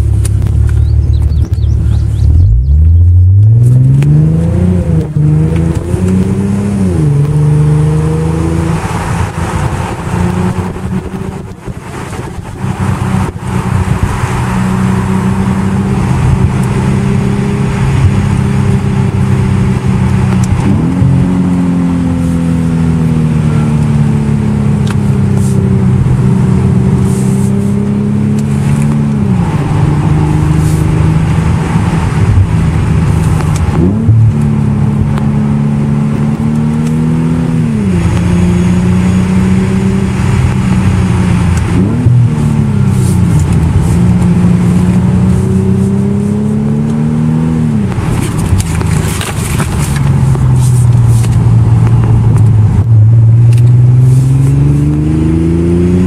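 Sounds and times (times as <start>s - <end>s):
car engine revving while driving: 0.0s - 56.0s.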